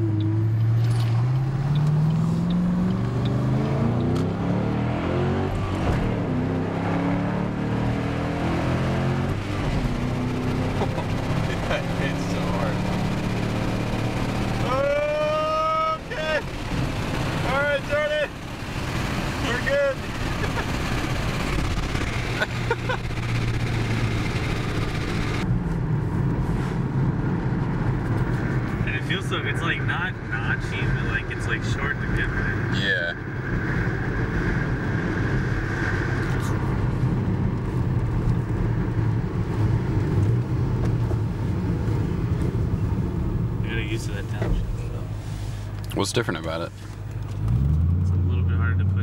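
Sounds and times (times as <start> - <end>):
car engine accelerating: 0.0 - 49.0
road noise while driving: 0.0 - 49.0.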